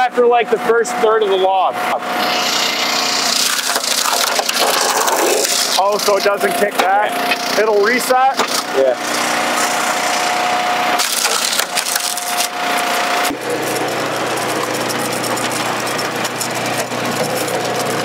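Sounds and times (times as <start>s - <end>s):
log splitter running: 0.0s - 18.0s
wood cracking and splintering: 2.5s - 18.0s.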